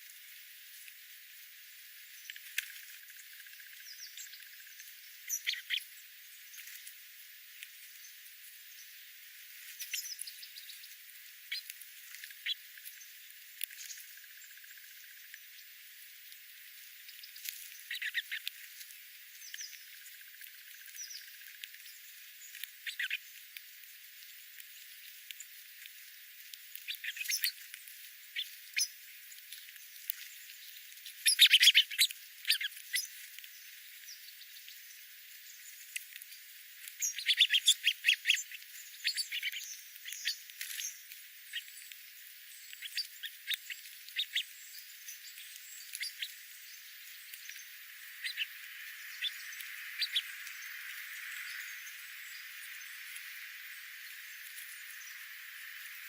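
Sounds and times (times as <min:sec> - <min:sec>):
soft hiss: 0:00.0 - 0:56.0
small birds chirping: 0:02.0 - 0:56.0.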